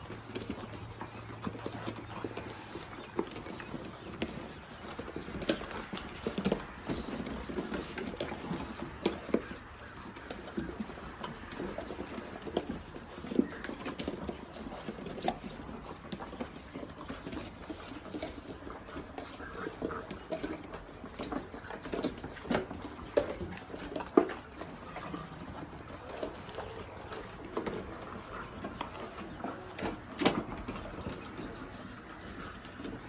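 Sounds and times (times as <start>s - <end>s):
puppies eating: 0.0s - 33.0s.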